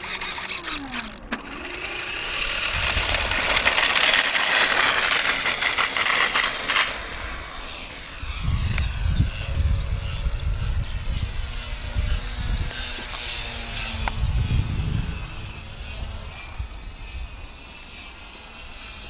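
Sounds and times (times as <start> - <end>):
model plane motor whining: 0.0 - 19.0.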